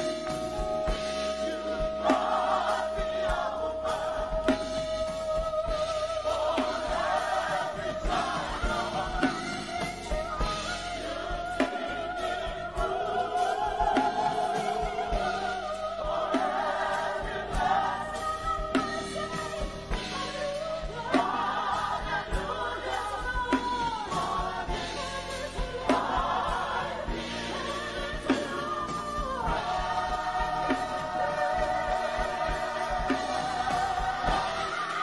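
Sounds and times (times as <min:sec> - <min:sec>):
gospel choir singing: 0:00.0 - 0:35.0.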